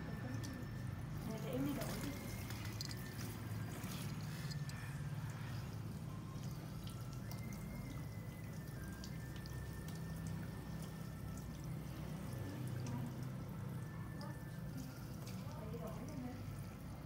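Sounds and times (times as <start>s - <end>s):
water dripping: 0.0s - 17.0s.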